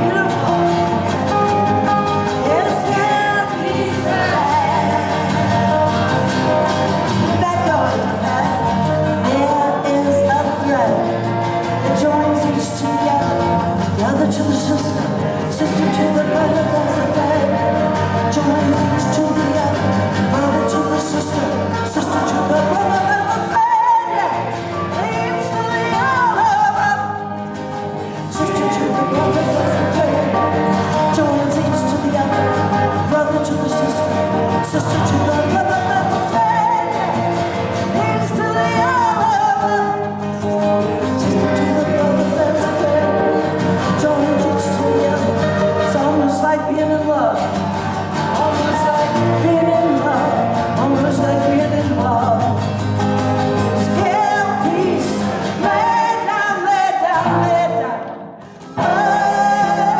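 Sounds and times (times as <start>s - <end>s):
woman singing: 0.0s - 47.6s, 48.3s - 52.6s, 53.7s - 59.9s
guitar accompaniment: 0.0s - 59.9s.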